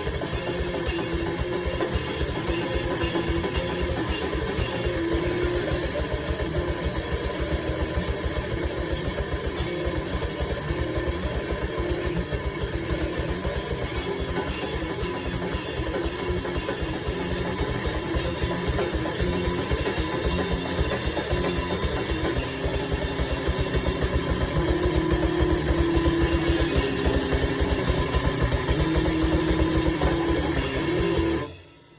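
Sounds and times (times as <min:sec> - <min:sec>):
grindcore band playing: 0:00.0 - 0:31.6.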